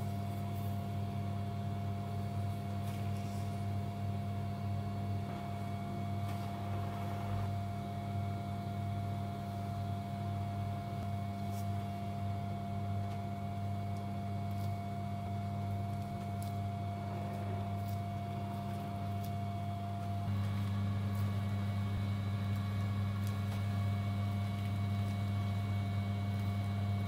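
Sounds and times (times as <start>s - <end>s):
low electrical hum with high tone: 0.0s - 27.0s.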